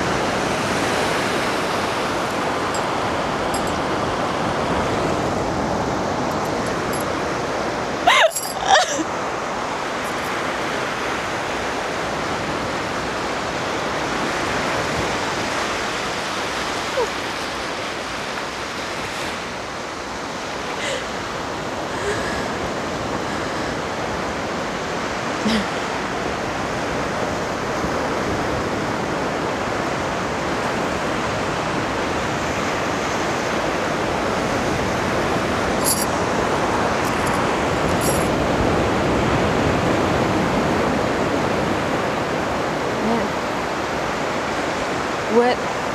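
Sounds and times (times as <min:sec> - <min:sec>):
sea surf breaking on beach: 0:00.0 - 0:45.9.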